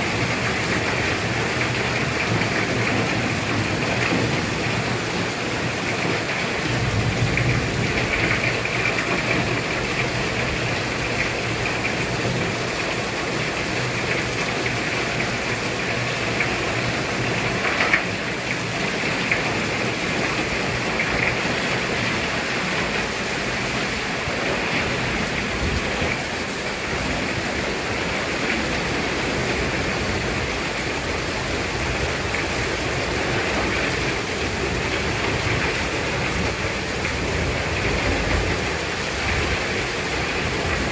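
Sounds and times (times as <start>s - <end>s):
heavy rain in strong wind: 0.0s - 40.9s.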